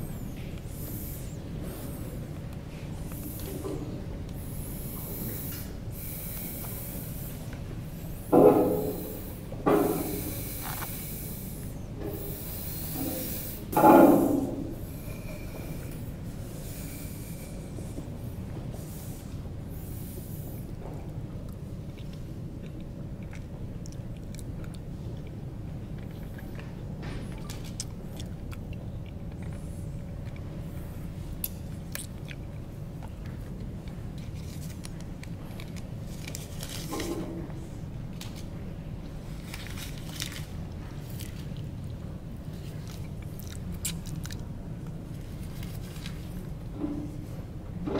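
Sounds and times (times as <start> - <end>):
low room hum: 0.0 - 47.9.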